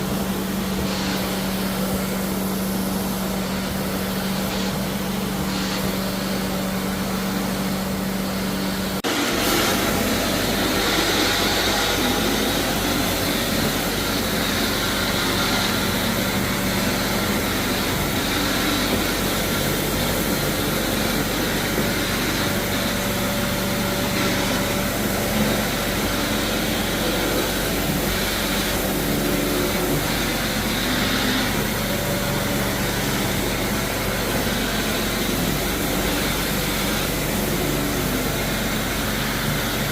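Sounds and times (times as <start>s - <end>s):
floor-cleaning machine droning: 0.0s - 39.9s.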